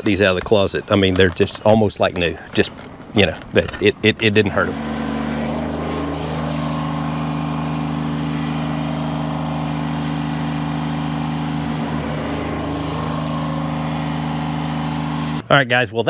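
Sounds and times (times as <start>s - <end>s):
tractor diesel engine running: 2.3s - 15.5s.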